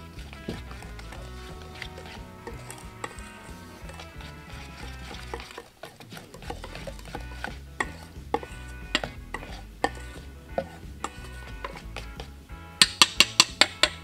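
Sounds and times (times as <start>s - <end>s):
wire whisk beating in metal bowl: 0.0s - 14.0s.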